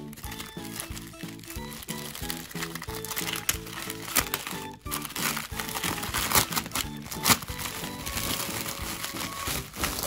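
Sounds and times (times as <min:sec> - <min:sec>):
background music: 0:00.0 - 0:10.0
plastic bag crinkling: 0:00.0 - 0:10.0.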